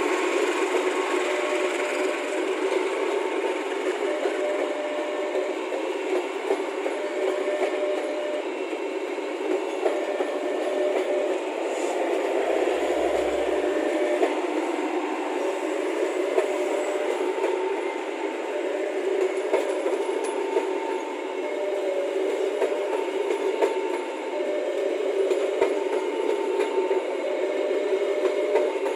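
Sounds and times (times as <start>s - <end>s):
rail clicks: 0.0s - 28.9s
train wheels rolling on rails: 0.0s - 28.9s.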